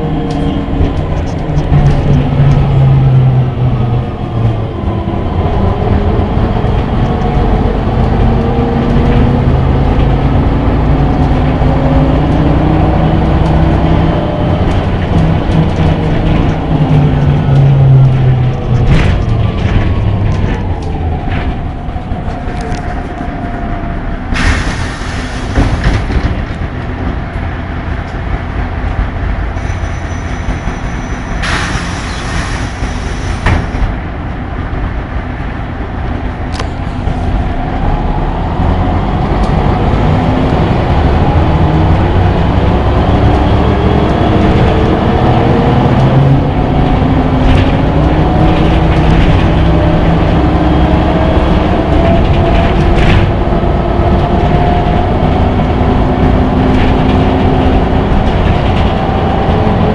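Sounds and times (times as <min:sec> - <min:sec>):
bus diesel engine rumble: 0:00.0 - 0:59.9.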